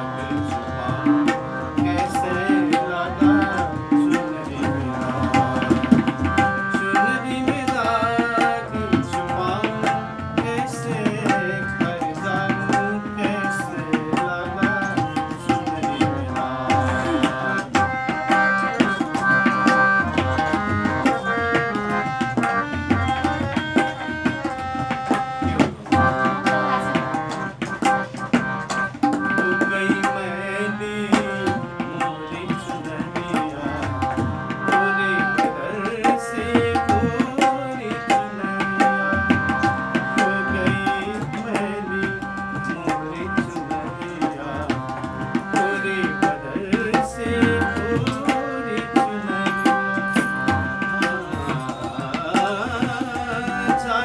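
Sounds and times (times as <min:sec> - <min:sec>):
man singing: 0:00.0 - 0:28.2, 0:28.8 - 0:54.0
harmonium chords: 0:00.0 - 0:54.0
tabla playing: 0:00.0 - 0:54.0.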